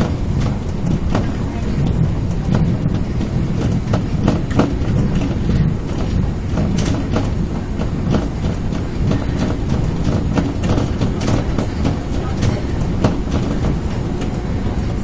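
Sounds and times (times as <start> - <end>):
subway train rumbling: 0.0 - 15.0
wheels clicking over rail joints: 0.0 - 15.0.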